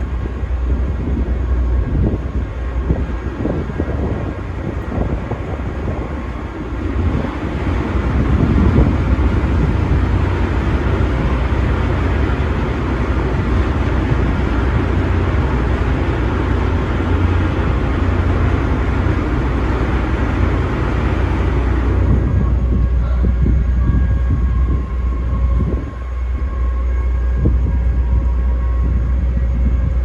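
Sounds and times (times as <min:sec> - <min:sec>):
ferry engines rumbling: 0:00.0 - 0:30.0.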